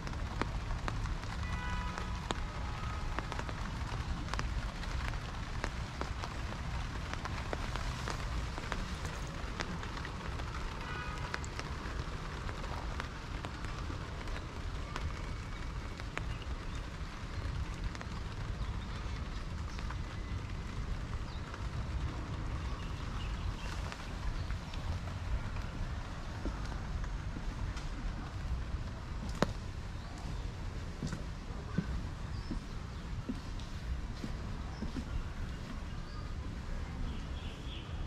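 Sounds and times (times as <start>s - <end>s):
steady rain with drop ticks: 0.0s - 38.0s.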